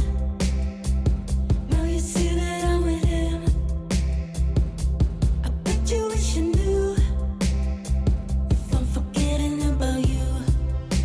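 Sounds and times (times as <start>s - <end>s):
background pop music: 0.0s - 11.0s.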